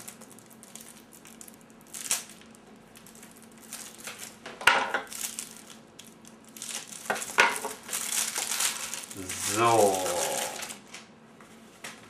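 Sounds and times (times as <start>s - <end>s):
plastic wrapping crinkling: 0.0s - 11.1s.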